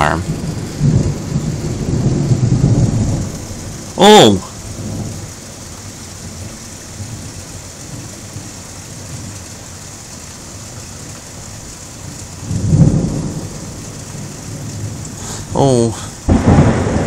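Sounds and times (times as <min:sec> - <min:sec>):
low thunder rumble: 0:00.0 - 0:09.4, 0:12.0 - 0:17.0
steady rain hiss: 0:00.0 - 0:17.0.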